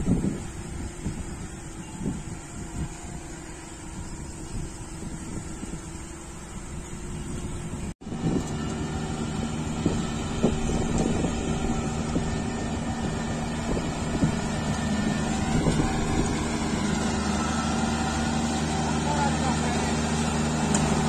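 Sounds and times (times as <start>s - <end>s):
combine harvester engine running: 0.0s - 21.0s
rising whine: 0.0s - 21.0s.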